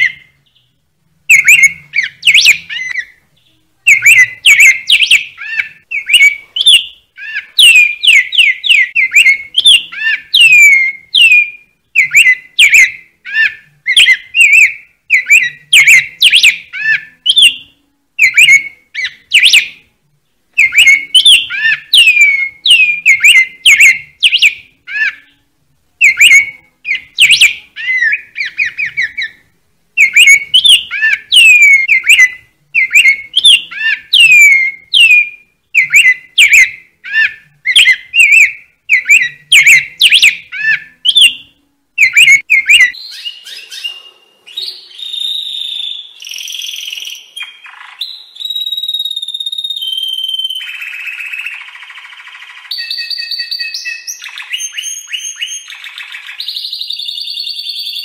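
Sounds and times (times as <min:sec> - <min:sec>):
bird whistling chirps: 0:00.0 - 0:00.7, 0:01.3 - 0:19.8, 0:20.6 - 0:25.4, 0:26.0 - 0:29.4, 0:30.0 - 0:58.0.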